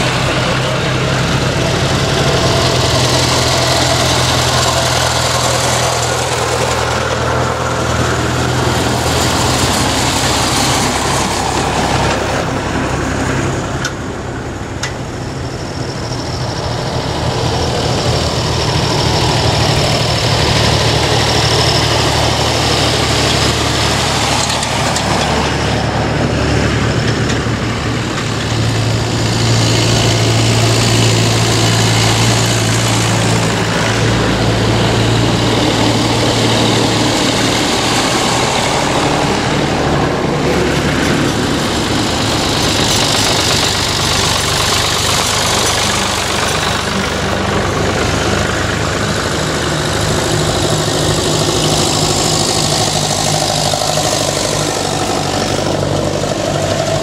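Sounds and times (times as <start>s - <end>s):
tractor engines driving past: 0.0s - 57.0s.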